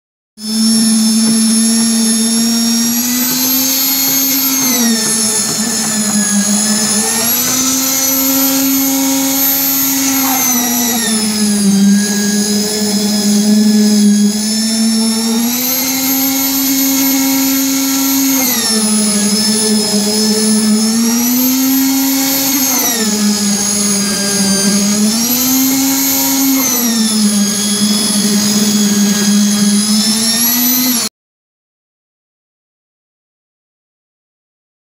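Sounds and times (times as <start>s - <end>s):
vibrator motor whining: 0.4s - 31.1s.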